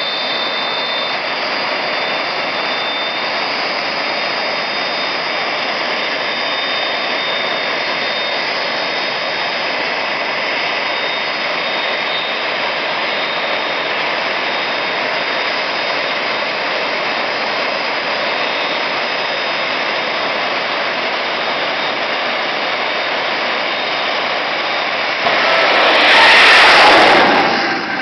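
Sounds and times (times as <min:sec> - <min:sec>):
turbine engine roaring: 0:00.0 - 0:28.0.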